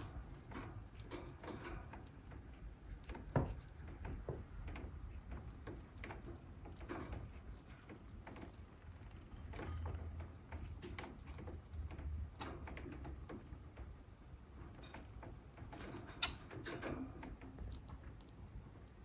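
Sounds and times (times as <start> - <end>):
birds tapping and scratching in cage: 0.0 - 19.0.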